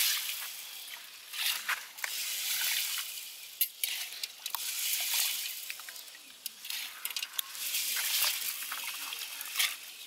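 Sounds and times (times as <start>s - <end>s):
water dripping and splashing: 0.0s - 10.0s.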